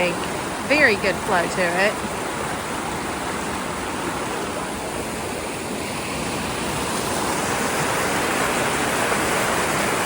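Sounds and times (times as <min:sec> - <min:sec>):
creek water rushing over rocks: 0:00.0 - 0:10.0.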